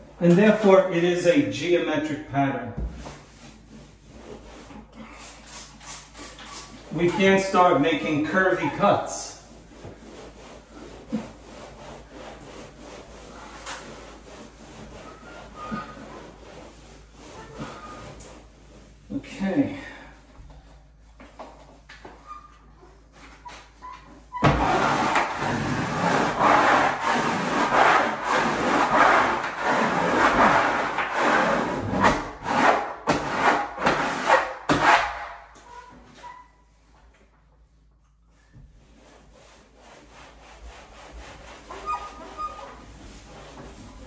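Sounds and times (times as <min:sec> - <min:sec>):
hand rubbing wallpaper: 0:02.8 - 0:44.0.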